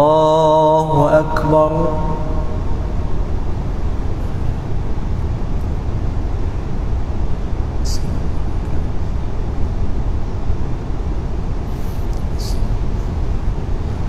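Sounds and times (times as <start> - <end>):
low hall background rumble: 0.0 - 14.0.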